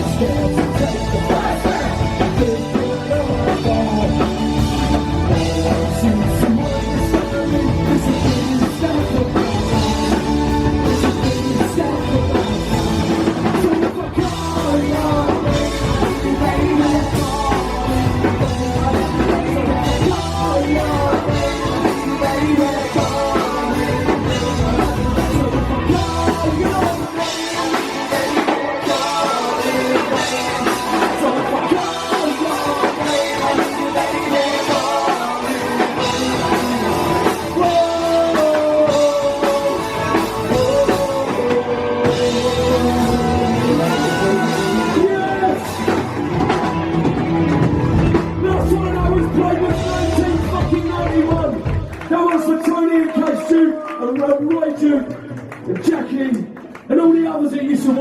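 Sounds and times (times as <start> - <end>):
deep bass: 0.0 - 27.8, 28.8 - 52.1
rock band playing live: 0.0 - 54.2.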